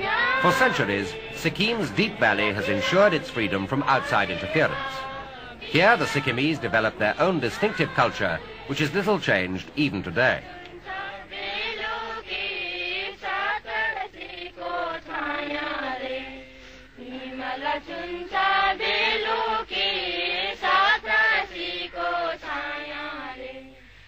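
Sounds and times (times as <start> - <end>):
voices singing a chant: 0.0 - 24.0.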